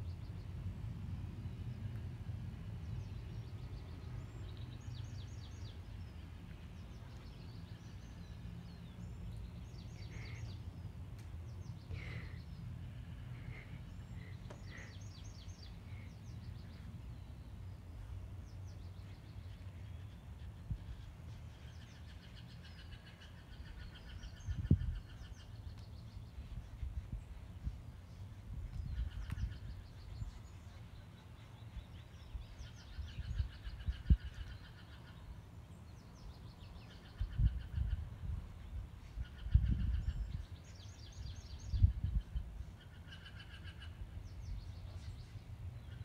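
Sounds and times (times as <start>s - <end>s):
low background rumble: 0.0s - 46.0s
small birds chirping: 0.0s - 46.0s.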